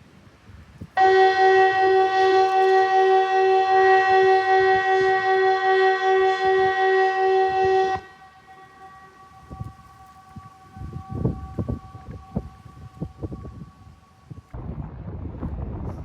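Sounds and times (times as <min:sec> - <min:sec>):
electronic siren multi-note blast: 0:01.0 - 0:14.5.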